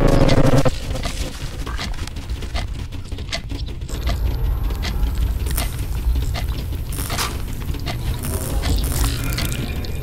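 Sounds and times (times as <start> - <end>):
low rumbling drone: 0.0 - 10.0
scattered clicks and ticks: 0.0 - 10.0.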